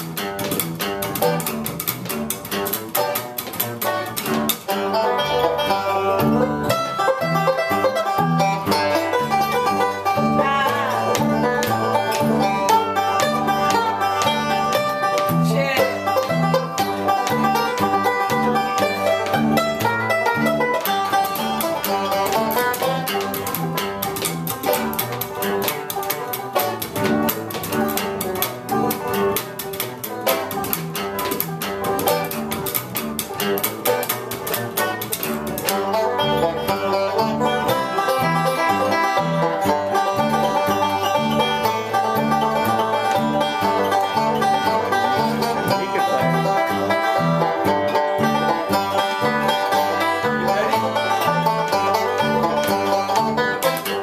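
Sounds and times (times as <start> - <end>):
fast picked banjo: 0.0 - 54.0
plucked upright bass: 0.0 - 54.0.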